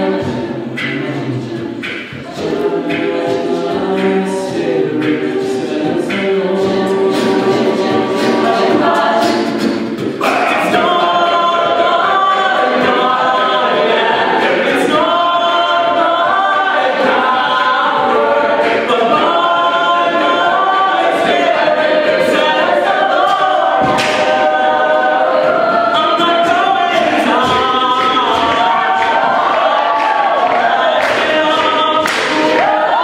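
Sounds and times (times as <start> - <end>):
a cappella backing harmonies: 0.0 - 33.0.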